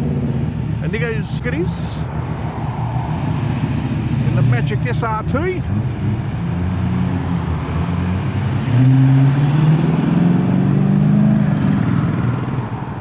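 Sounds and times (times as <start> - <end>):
car engine driving in: 0.0 - 13.0.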